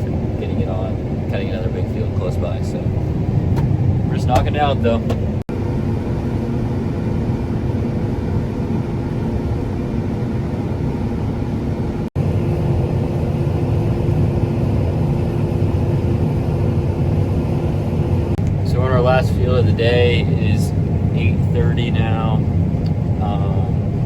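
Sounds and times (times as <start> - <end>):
combine harvester drone: 0.0 - 24.0.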